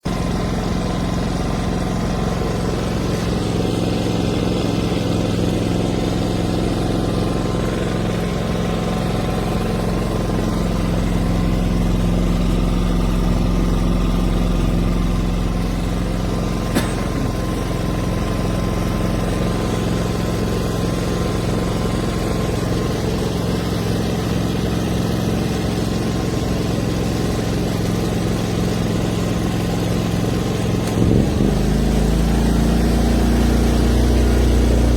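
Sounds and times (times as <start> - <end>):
generator engine running: 0.0 - 34.9.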